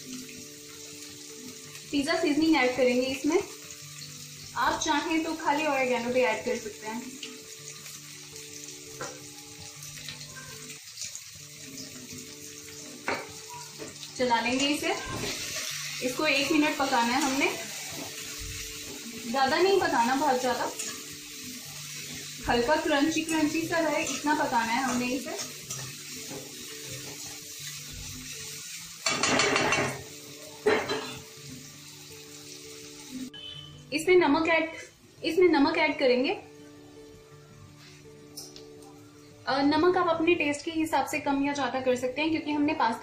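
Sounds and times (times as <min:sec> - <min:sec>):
vegetables sizzling in hot oil: 0:00.0 - 0:36.6.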